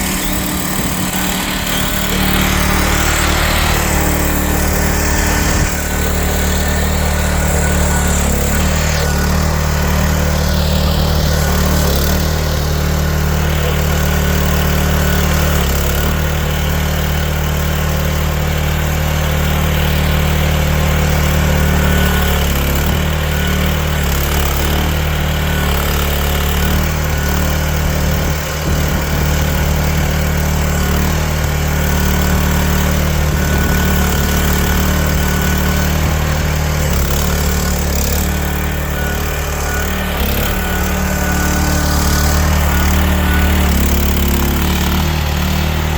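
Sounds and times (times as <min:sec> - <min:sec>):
small engine running steadily: 0:00.0 - 0:45.9.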